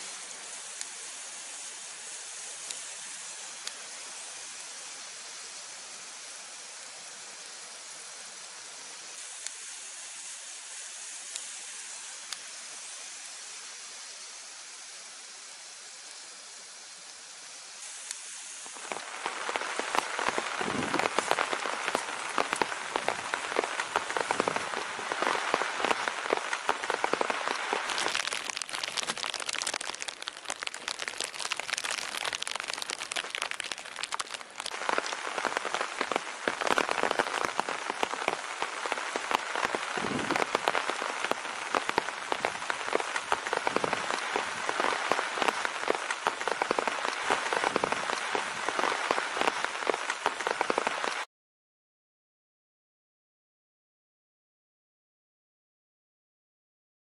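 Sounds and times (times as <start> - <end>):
steady rain patter: 0.0 - 51.3.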